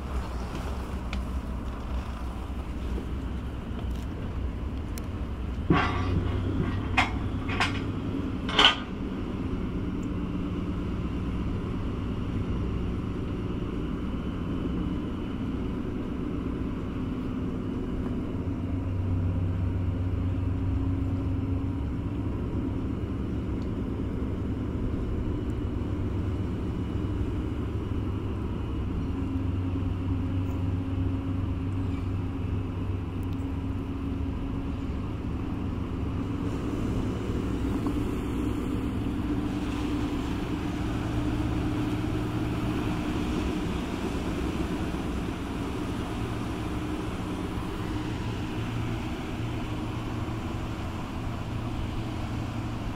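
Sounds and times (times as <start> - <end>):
diesel engines rumbling: 0.0 - 52.9.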